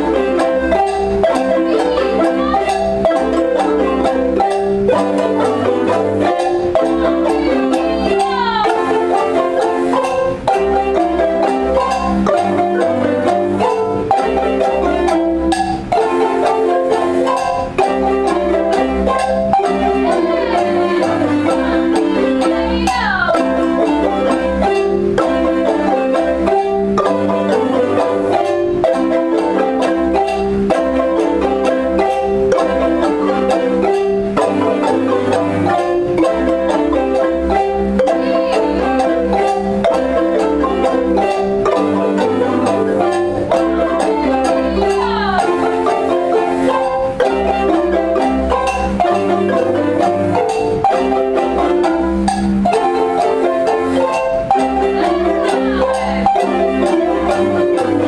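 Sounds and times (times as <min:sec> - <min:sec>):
wooden marimbas playing: 0:00.0 - 0:58.0.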